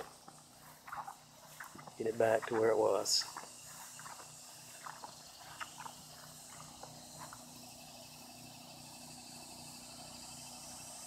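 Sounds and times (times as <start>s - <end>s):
insect chorus trilling: 0.0s - 11.0s
low hum: 0.0s - 11.0s.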